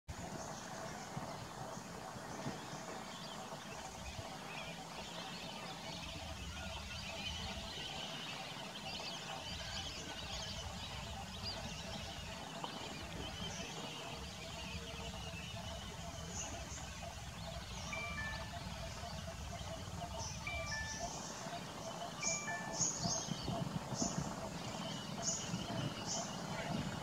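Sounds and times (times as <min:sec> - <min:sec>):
small birds chirping: 0:00.2 - 0:27.0.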